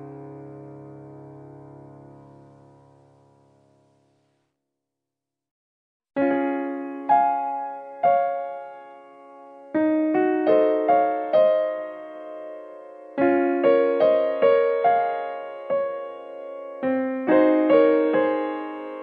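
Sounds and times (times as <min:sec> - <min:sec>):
gentle piano melody: 0:00.0 - 0:04.4, 0:06.2 - 0:19.0.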